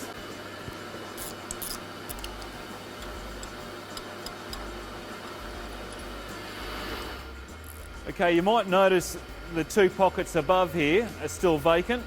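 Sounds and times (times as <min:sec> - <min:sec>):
sharpening machine humming: 0:00.0 - 0:12.0.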